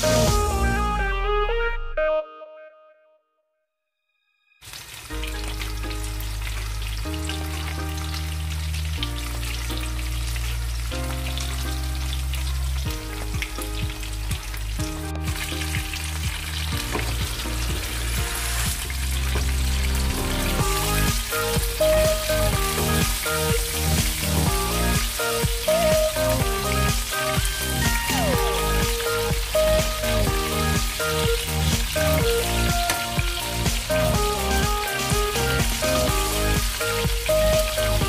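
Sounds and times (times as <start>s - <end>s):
background music: 0.0s - 3.1s, 4.6s - 38.0s
chicken sizzling in oil: 4.6s - 38.0s.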